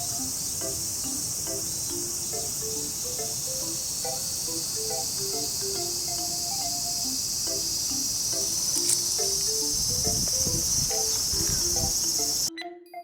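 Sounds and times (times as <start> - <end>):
high-pitched insect chorus: 0.0 - 12.5
simple background music melody: 0.0 - 13.0.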